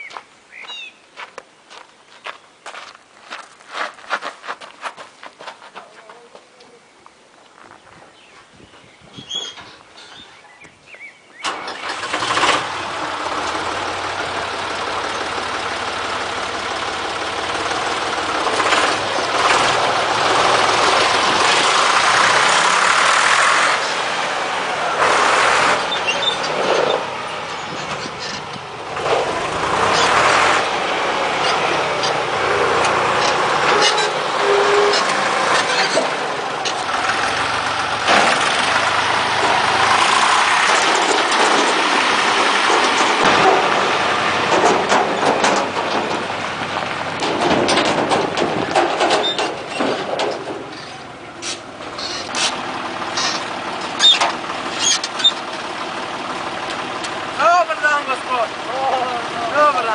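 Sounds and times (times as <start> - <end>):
tractor engine running: 11.4 - 59.9.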